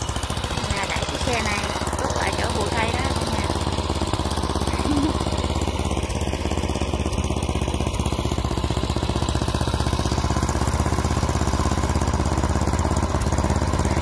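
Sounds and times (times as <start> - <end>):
snow blower engine running: 0.0 - 14.0.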